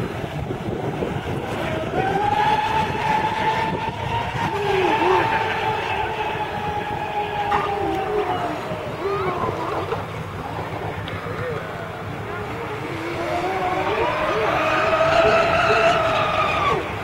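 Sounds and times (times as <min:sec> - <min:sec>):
high-pitched boat engines whining: 0:00.0 - 0:17.0
wind noise on microphone: 0:00.0 - 0:17.0.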